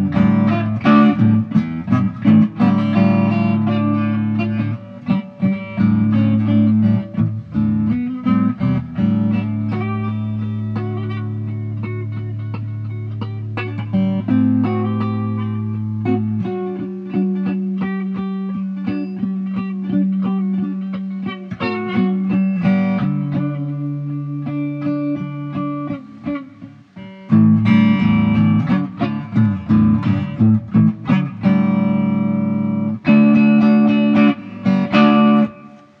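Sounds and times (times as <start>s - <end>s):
electric guitar instrumental music: 0.0s - 36.0s.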